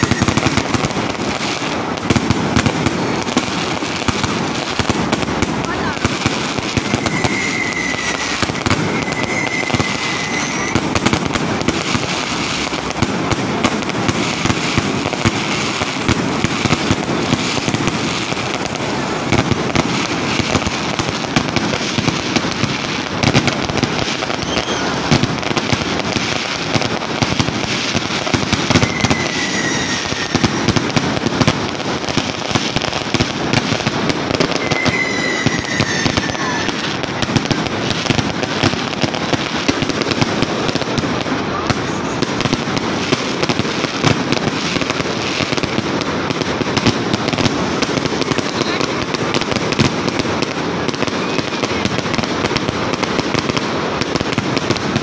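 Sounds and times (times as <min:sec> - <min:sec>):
falling firework whistles: 0:00.0 - 0:55.0
fireworks crackling and popping: 0:00.0 - 0:55.0.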